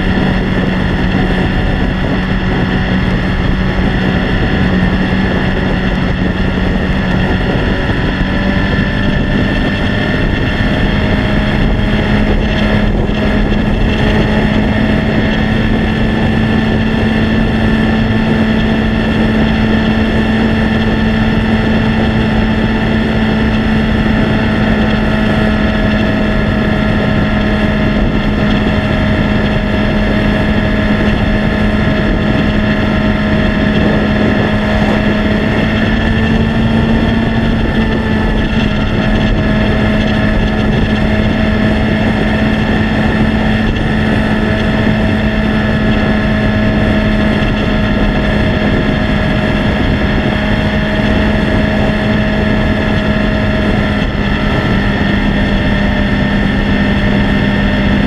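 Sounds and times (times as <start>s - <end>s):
motorcycle engine cruising: 0.0s - 58.0s
wind rushing over microphone: 0.0s - 58.0s.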